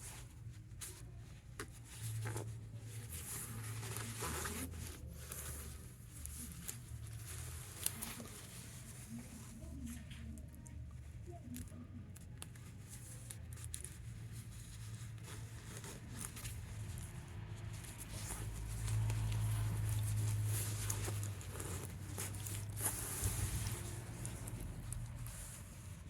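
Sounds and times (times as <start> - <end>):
low steady hum: 0.0 - 26.0
zipper clicks and fabric rustling: 2.1 - 10.6, 13.2 - 26.0.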